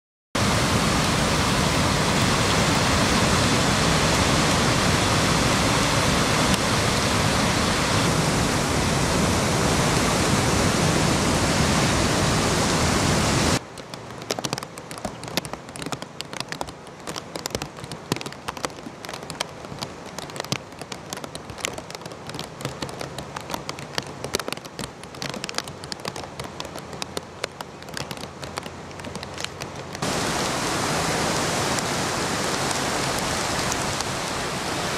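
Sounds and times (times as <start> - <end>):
water rushing over spillway: 0.4 - 34.9.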